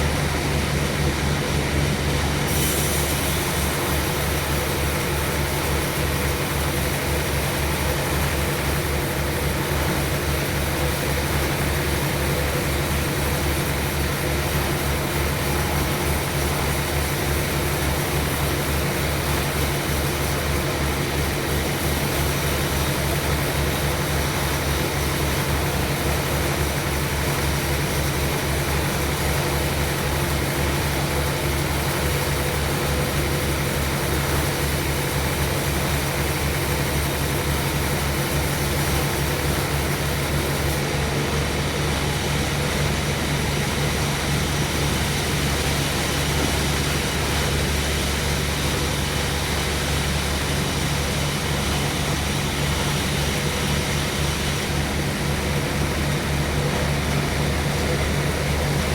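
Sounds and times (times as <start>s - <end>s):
sawmill saw running: 0.0s - 58.9s.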